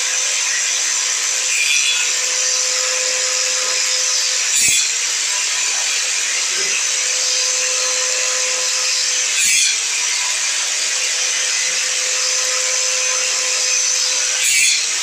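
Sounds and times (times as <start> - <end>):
angle grinder whining: 0.0 - 15.0.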